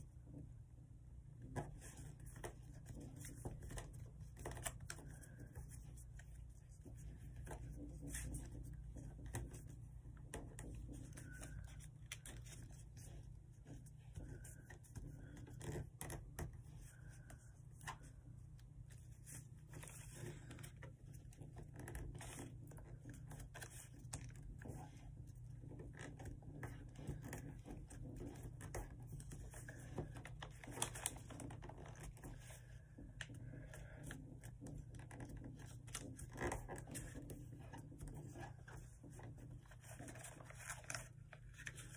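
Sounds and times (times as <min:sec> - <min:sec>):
paper being folded: 0:01.8 - 0:41.9.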